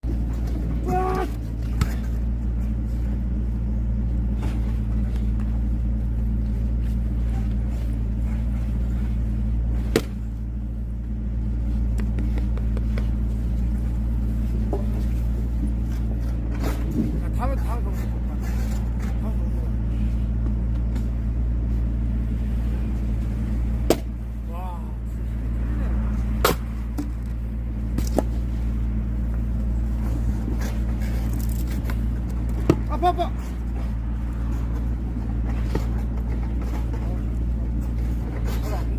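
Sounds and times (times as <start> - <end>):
engine droning: 0.0 - 38.9.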